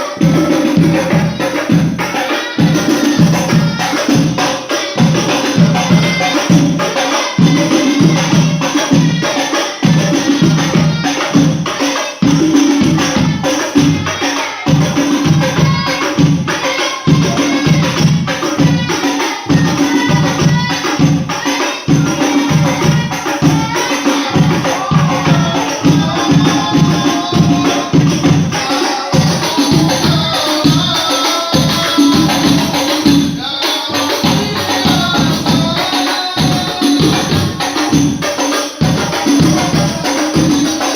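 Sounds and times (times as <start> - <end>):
devotional singing: 0.0 - 40.9
frame drums and tambourines: 0.0 - 40.9.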